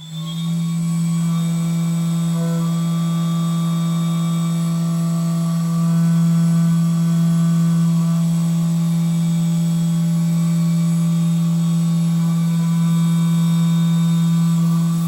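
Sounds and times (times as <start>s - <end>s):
milling machine running: 0.0s - 15.0s.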